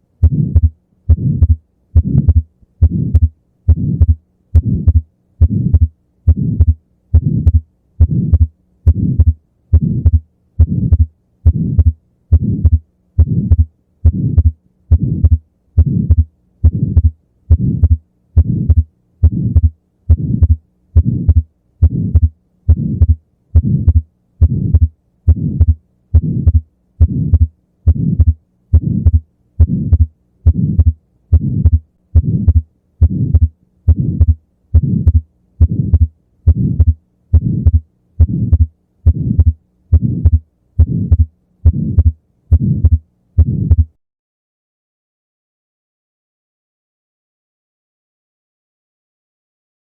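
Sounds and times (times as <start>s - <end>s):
heartbeat through stethoscope: 0.2s - 44.0s.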